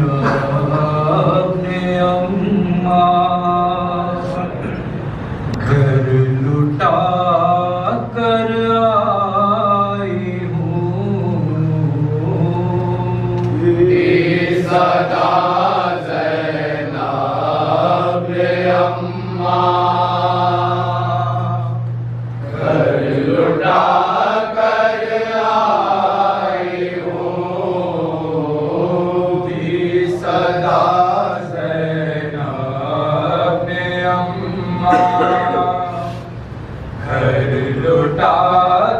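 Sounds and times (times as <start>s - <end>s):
men chanting in unison: 0.0s - 4.9s, 5.6s - 21.7s, 22.4s - 38.9s
steady low hum: 0.0s - 38.9s.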